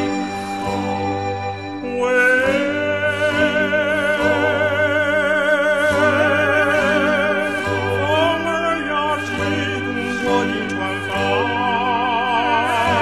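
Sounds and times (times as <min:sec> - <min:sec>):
instrumental accompaniment: 0:00.0 - 0:13.0
singer holding long vibrato call: 0:00.0 - 0:13.0.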